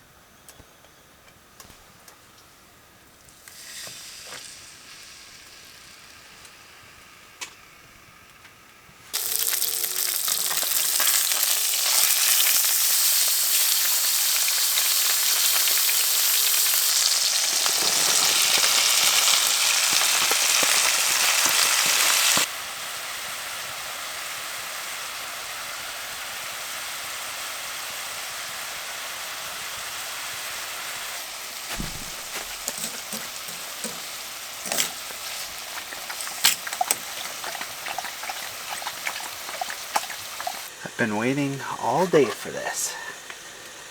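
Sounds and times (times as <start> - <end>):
steak sizzling in a pan: 3.4 - 7.2, 9.1 - 40.7.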